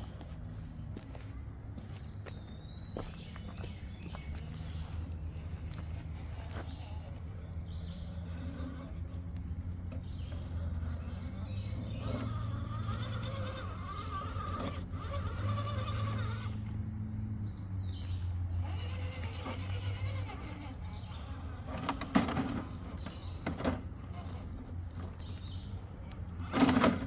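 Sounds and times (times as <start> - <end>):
electric motor and gear whine: 3.0 - 27.0.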